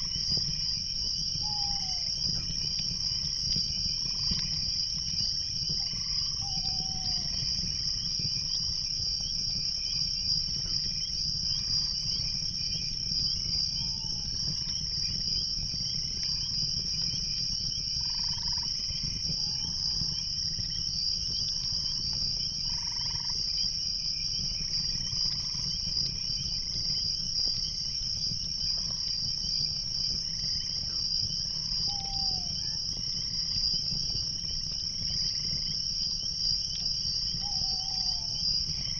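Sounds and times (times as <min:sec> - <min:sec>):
crickets trilling: 0:00.0 - 0:38.9
higher cricket chirp: 0:00.0 - 0:38.9.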